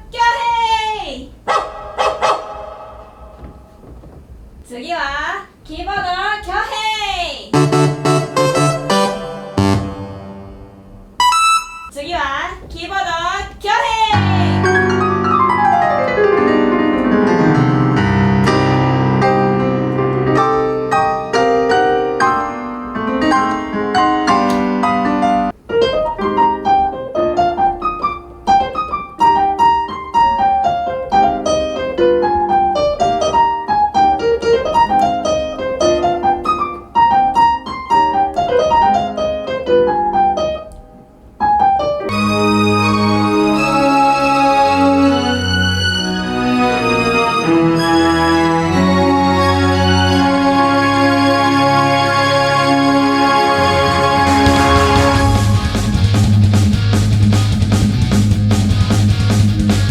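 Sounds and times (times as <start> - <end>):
keyboard piano runs and chords: 7.6 - 11.9, 14.6 - 59.9.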